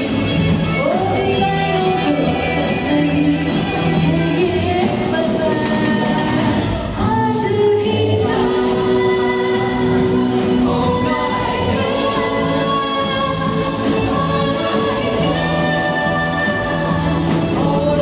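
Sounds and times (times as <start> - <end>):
drums: 0.0 - 18.0
keyboards: 0.0 - 18.0
woman singing into a microphone: 0.7 - 18.0.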